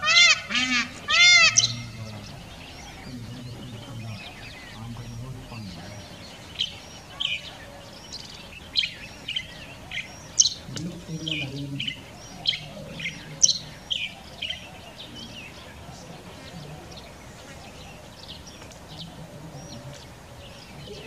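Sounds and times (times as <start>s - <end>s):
faint bird calls: 0.0s - 21.0s
small birds chirping sharply: 0.0s - 21.0s.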